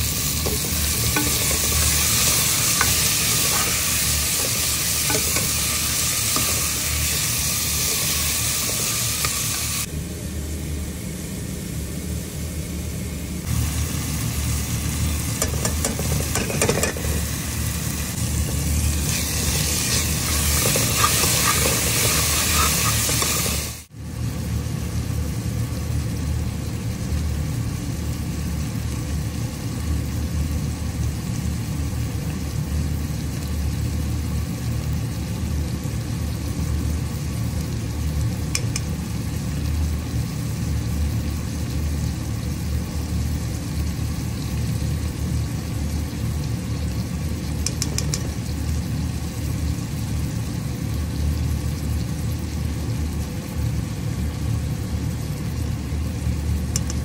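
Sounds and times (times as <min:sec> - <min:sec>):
frying sizzle: 0:00.0 - 0:57.0
low mechanical rumble: 0:00.0 - 0:57.0.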